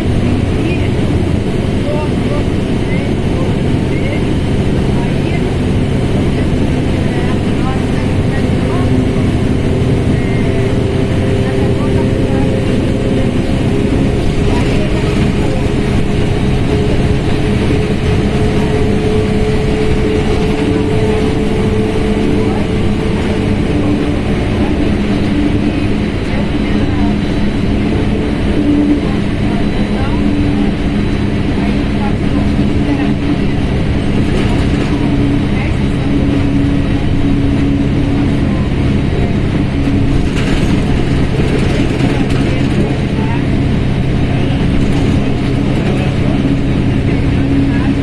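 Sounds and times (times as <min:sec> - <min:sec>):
bus diesel engine running: 0:00.0 - 0:48.0
steady whine: 0:00.0 - 0:48.0.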